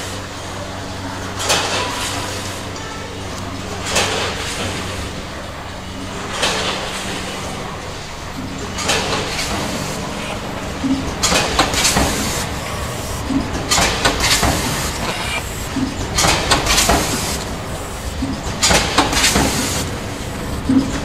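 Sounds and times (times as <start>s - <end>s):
machine clatter and air hiss: 0.0s - 21.0s
packing machine humming: 0.0s - 21.0s.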